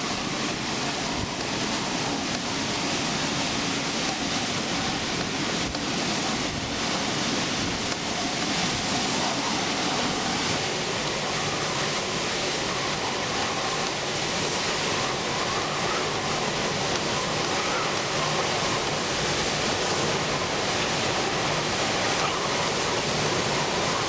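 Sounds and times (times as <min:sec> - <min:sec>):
wavering wind whistle: 0:00.0 - 0:24.0.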